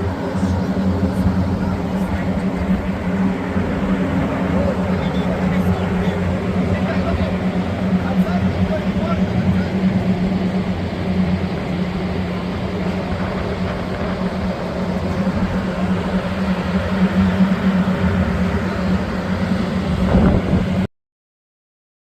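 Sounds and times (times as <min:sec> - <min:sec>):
low engine drone: 0:00.0 - 0:20.9
steady rushing noise: 0:00.0 - 0:20.9.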